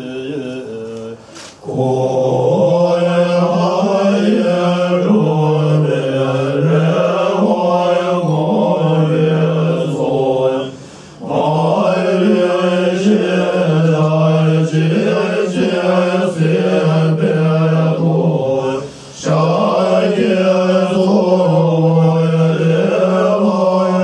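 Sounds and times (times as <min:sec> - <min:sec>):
monks chanting low tone: 0:00.0 - 0:24.0.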